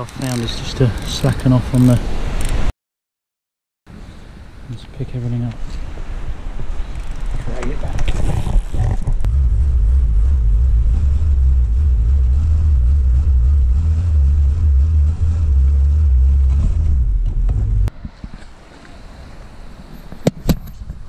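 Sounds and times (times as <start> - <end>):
water buffeting microphone: 0.0 - 2.7, 6.0 - 20.2.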